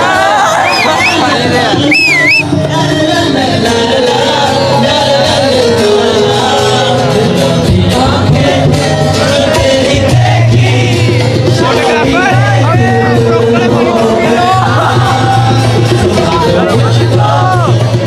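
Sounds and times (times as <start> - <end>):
rhythmic accompaniment: 0.0 - 18.0
voices singing held notes: 0.0 - 18.0.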